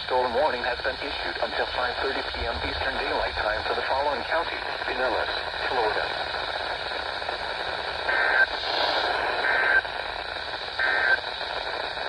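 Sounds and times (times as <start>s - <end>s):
radio static: 0.0s - 12.0s.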